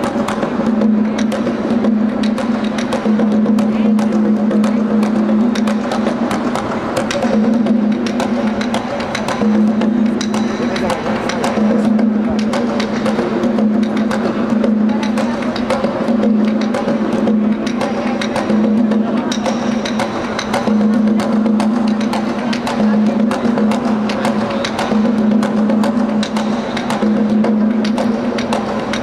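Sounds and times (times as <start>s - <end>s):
barrel drum played with stick: 0.0s - 29.0s.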